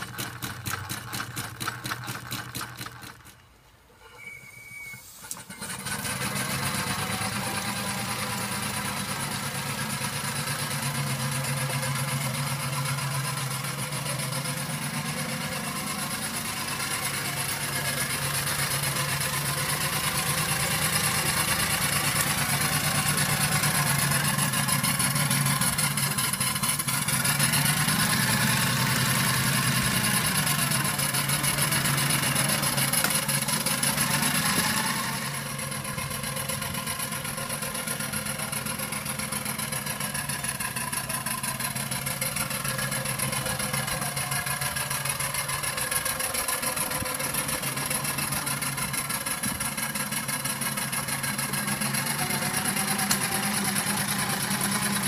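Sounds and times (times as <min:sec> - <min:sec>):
steam engine rapid beat: 0:00.0 - 0:03.3, 0:06.0 - 0:55.0.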